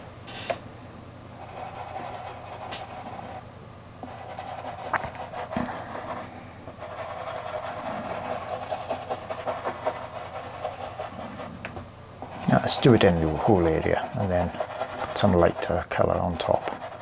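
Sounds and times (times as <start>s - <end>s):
pastel stick rubbing on paper: 1.4s - 3.4s, 4.0s - 11.5s, 12.2s - 17.0s.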